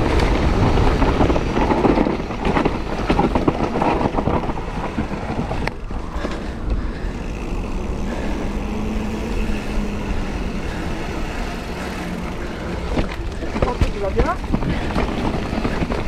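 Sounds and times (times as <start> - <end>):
wheels humming: 0.0 - 16.0
wheels rolling on asphalt: 0.0 - 16.0
wind rushing over microphone: 0.0 - 16.0.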